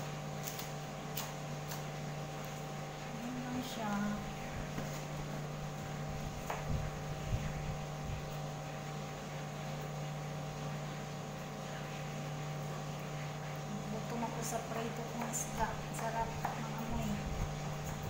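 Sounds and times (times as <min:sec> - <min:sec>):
electric appliance hum: 0:00.0 - 0:18.0.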